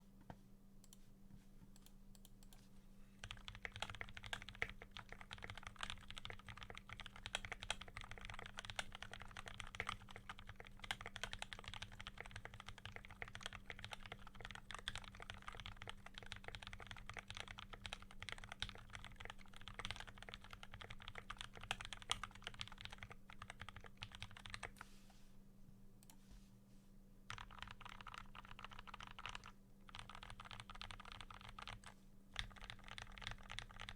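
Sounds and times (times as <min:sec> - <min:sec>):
mechanical keyboard typing: 0:03.2 - 0:24.8, 0:27.3 - 0:33.9.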